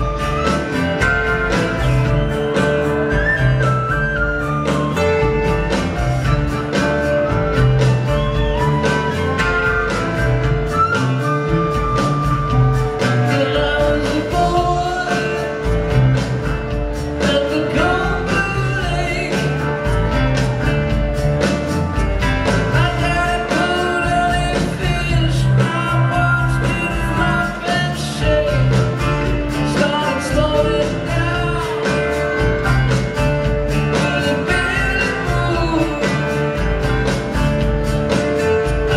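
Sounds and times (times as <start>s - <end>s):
live string band playing: 0.0s - 38.9s.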